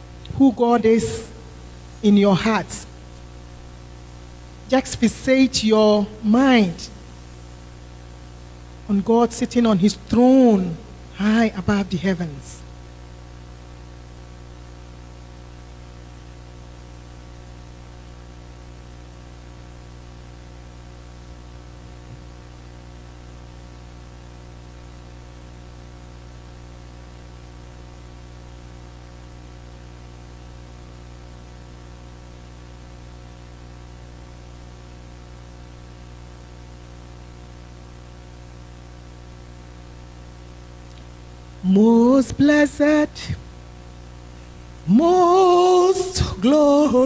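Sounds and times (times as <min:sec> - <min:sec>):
constant hiss: 0:00.0 - 0:47.0
low electronic hum tones: 0:00.0 - 0:47.0.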